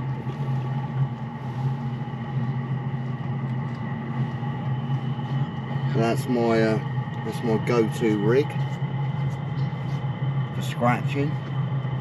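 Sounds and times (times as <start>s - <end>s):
machinery droning: 0.0s - 12.0s
thin high steady tones: 0.0s - 12.0s.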